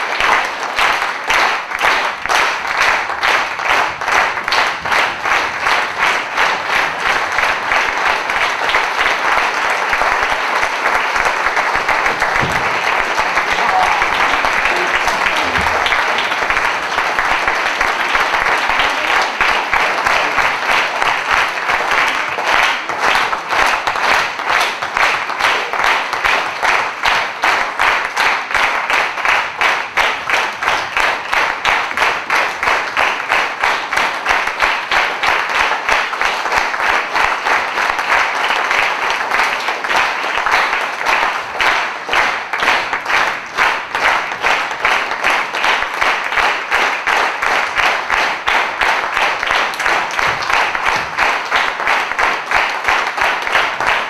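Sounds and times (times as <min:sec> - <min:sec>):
audience applauding: 0:00.0 - 0:54.0
rhythmic clapping in unison: 0:00.0 - 0:54.0.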